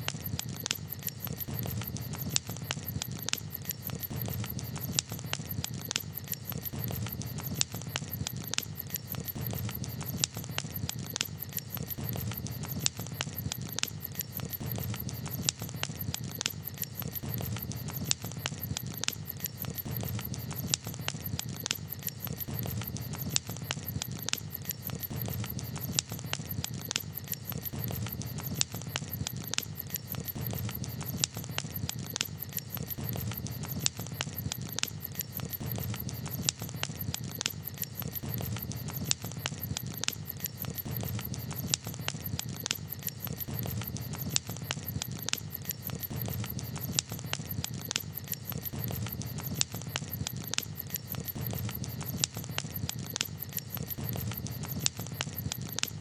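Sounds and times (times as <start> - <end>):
campfire crackling and popping: 0.0 - 56.0
low rumble of fire: 0.0 - 56.0.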